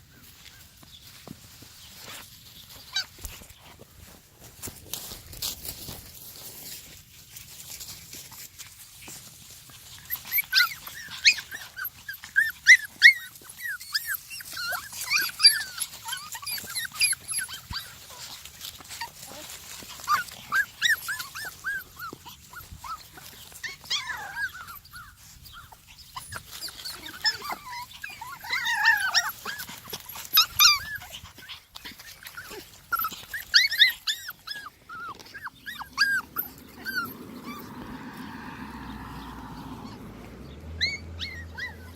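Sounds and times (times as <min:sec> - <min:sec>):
puppies whimpering and squeaking: 0:00.1 - 0:04.3, 0:05.4 - 0:41.9.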